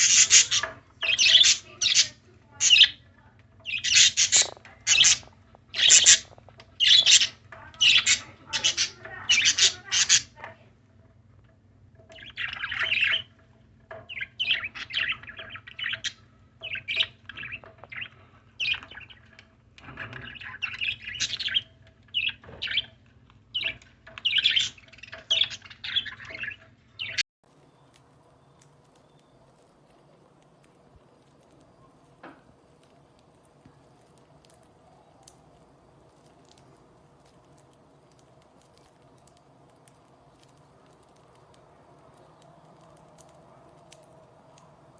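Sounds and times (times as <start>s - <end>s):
birds chirping: 0.0s - 10.7s, 11.9s - 44.9s.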